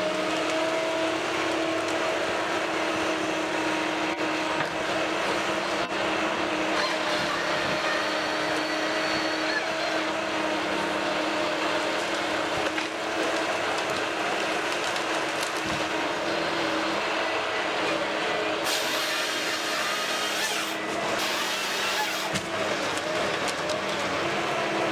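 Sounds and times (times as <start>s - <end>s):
heavy machine engine humming: 0.0s - 24.9s.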